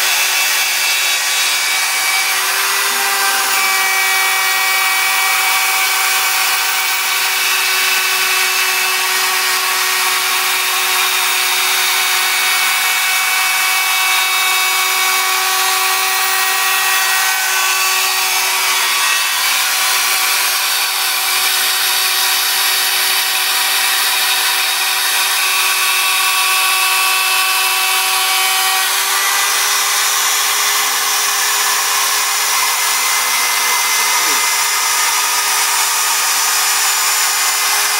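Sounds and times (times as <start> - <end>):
router cutting noise: 0.0 - 37.9
router spindle whine: 0.0 - 37.9.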